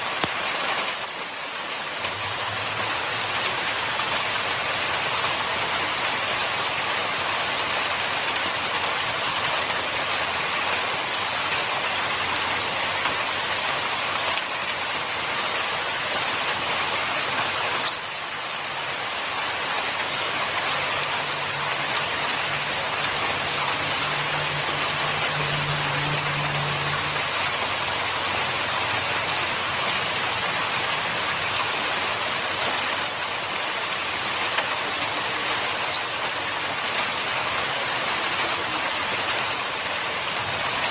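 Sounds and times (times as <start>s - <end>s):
rain-like hiss: 0.0s - 40.9s.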